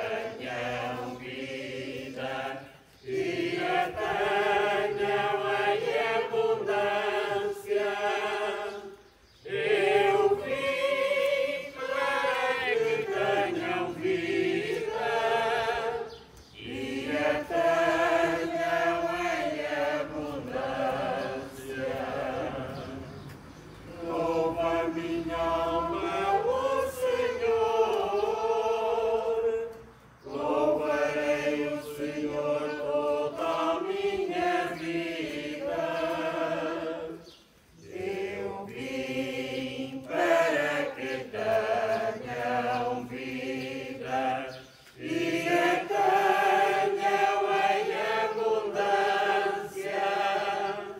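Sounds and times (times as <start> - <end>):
person singing a hymn unaccompanied: 0.0 - 50.9.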